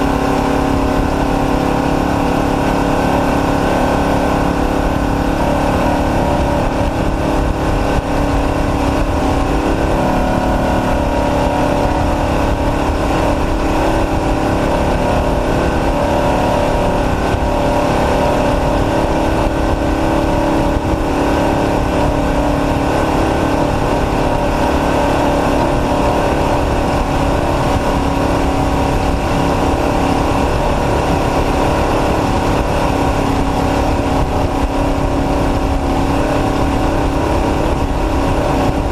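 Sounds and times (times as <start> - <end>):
rushing noise: 0.0 - 38.9
truck engine running hard: 0.0 - 38.9.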